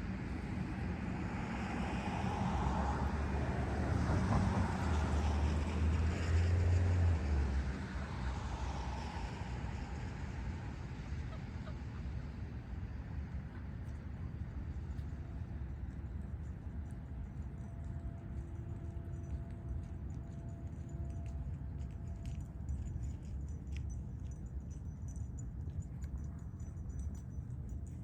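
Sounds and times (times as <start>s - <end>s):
passing vehicle engine rumble: 0.1s - 28.0s.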